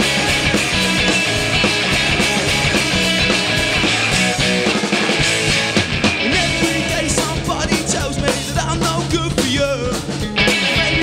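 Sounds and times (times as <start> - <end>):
drum kit: 0.0 - 11.0
electric guitars: 0.0 - 11.0.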